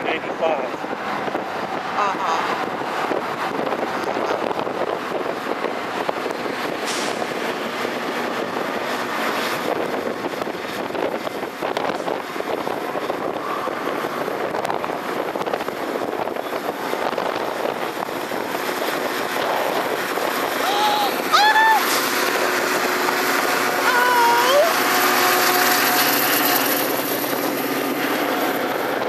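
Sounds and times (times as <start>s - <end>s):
steady vehicle noise: 0.0s - 29.0s.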